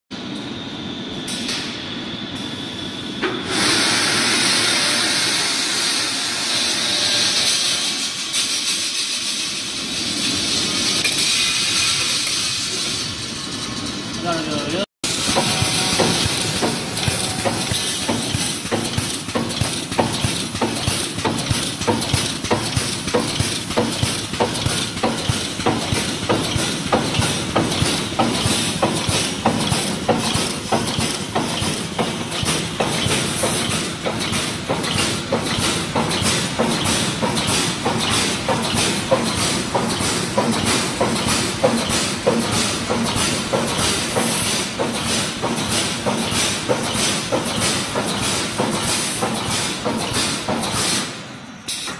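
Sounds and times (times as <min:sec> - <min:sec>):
welding machine hiss and clank: 0:01.1 - 0:51.9.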